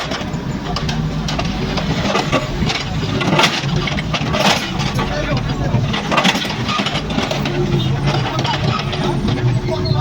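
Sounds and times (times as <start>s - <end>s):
diesel engine running: 0.0s - 10.0s
knocks and clatter: 0.0s - 10.0s.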